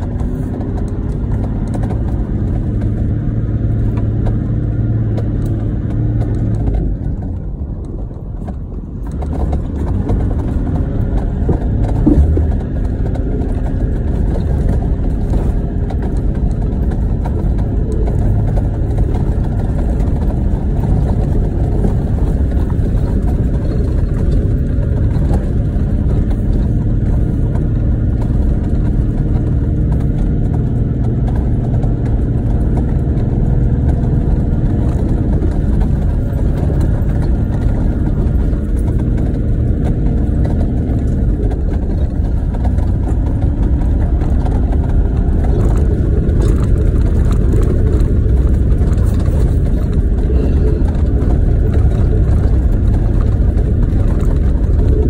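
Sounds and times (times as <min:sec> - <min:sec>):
car engine running: 0:00.0 - 0:55.0
tyres rumbling on gravel: 0:00.0 - 0:55.0.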